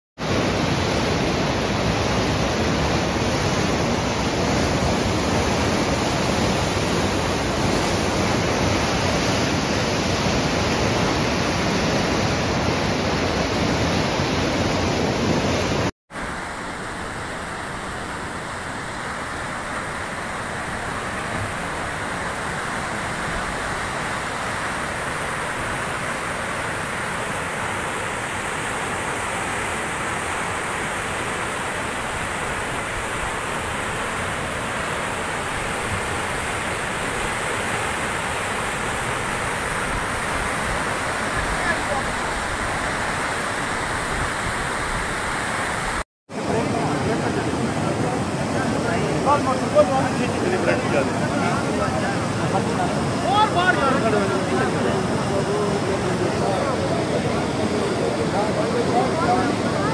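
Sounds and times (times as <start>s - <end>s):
floodwater rushing: 0.2s - 59.9s.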